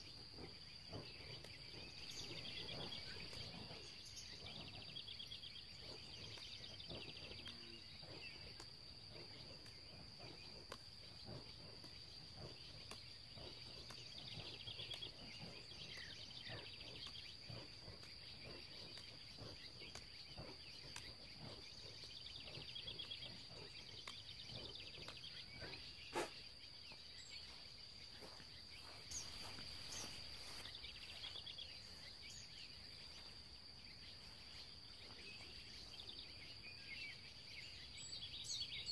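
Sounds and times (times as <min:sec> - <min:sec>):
insects chirring: 0:00.0 - 0:38.9
pulsed insect trills: 0:00.0 - 0:38.9.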